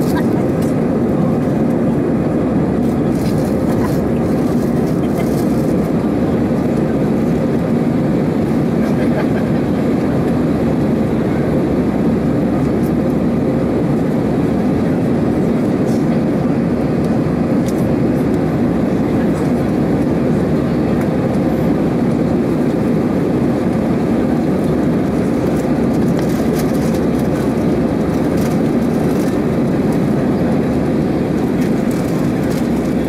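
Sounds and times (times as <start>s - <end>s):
airplane cabin roar: 0.0s - 33.0s.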